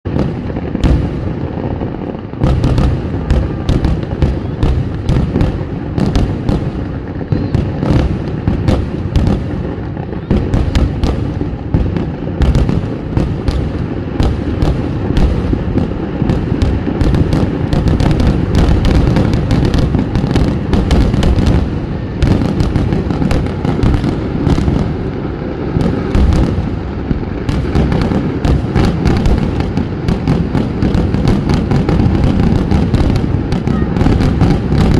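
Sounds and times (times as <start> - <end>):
firecracker bangs and booms: 0.0 - 34.9.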